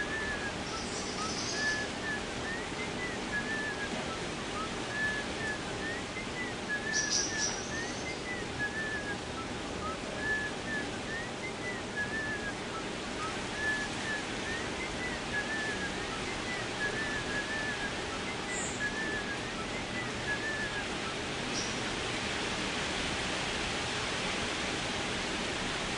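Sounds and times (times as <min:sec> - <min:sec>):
wind in trees: 0:00.0 - 0:25.9.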